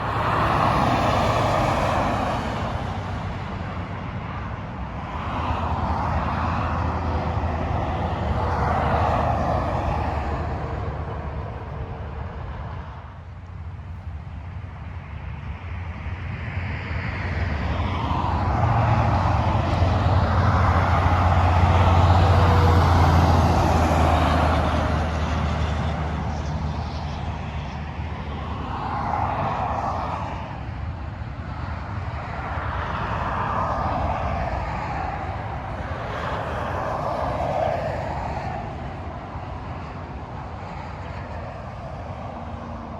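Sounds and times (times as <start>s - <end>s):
traffic tyre roar: 0.0s - 42.9s.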